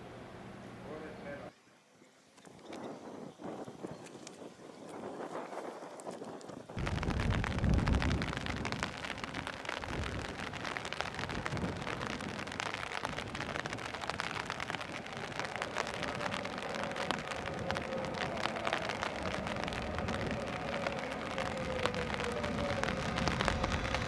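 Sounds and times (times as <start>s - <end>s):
rain pattering: 2.4s - 24.0s.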